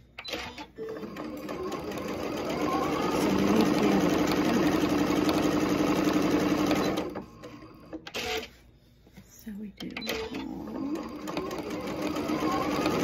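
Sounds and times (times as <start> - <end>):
sewing machine stitching: 0.2 - 8.5, 10.0 - 13.0.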